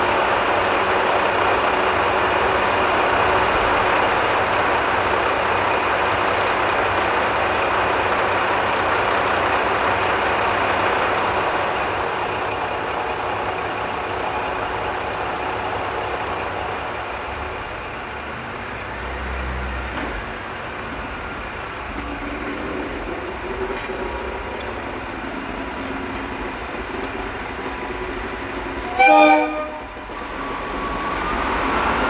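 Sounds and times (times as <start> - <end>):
diesel railcar engine idling: 0.0 - 32.0.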